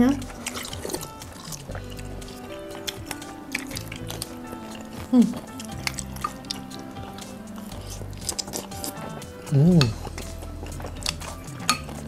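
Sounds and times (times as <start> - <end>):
background music of held notes: 0.0 - 12.0
faint wet eating sounds: 0.0 - 12.0.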